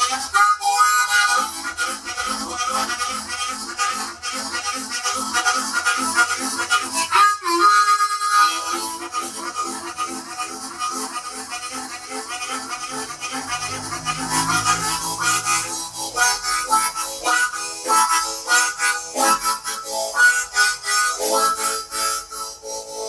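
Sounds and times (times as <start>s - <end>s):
harmonica chugging chords: 0.0s - 23.0s.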